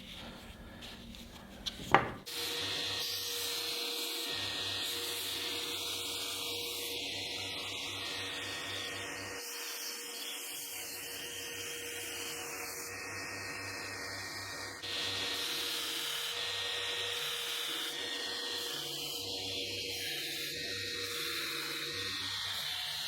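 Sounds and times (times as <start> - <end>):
power tool grinding a knife: 1.9 - 23.0.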